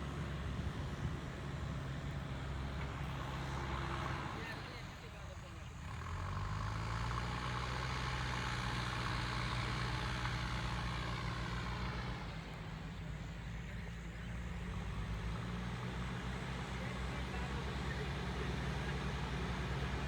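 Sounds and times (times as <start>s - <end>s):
backhoe diesel engine running: 0.0s - 20.0s.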